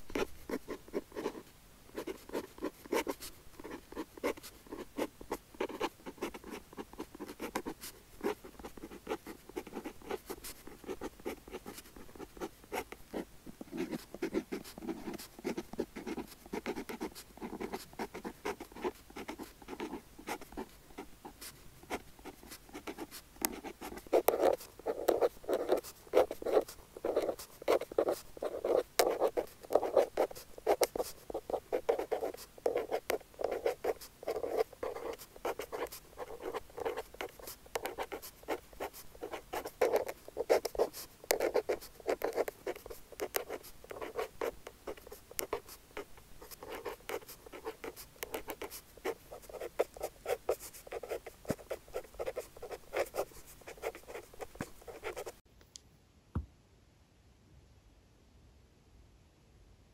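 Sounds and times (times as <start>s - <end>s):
pen scratching on paper: 0.0s - 55.4s.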